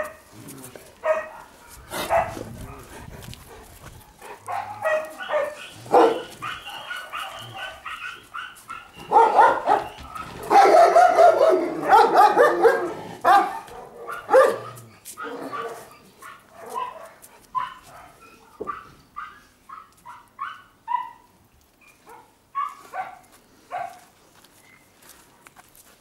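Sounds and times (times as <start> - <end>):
dogs barking and yelping: 1.0 - 24.0.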